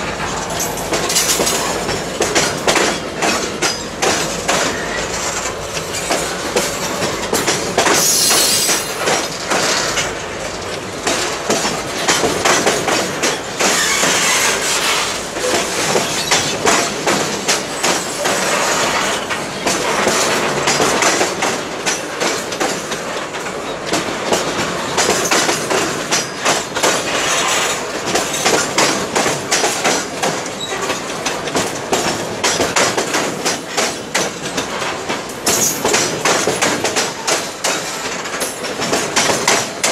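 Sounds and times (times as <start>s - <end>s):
train wheels clattering over joints: 0.0s - 39.9s.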